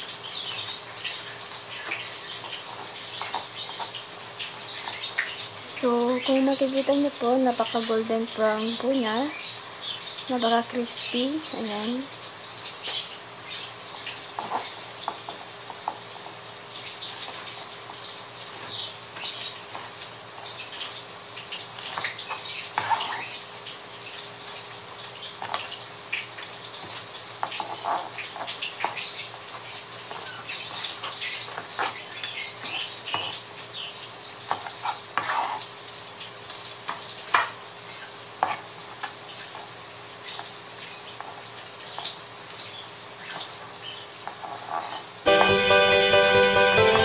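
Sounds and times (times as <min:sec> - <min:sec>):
oil sizzling and crackling: 0:00.0 - 0:47.0.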